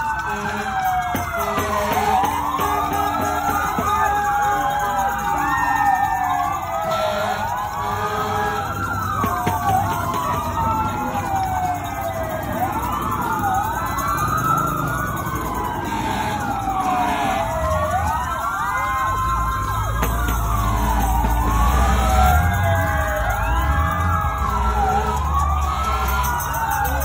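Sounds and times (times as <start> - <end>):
emergency sirens wailing: 0.0 - 27.0
pickup engine rumble: 0.0 - 27.0.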